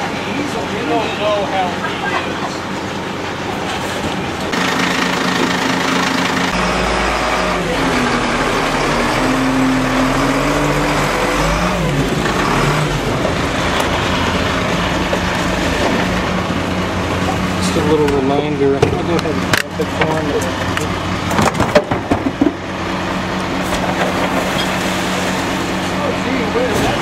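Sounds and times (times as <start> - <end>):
garbage truck engine revving: 0.0 - 27.0.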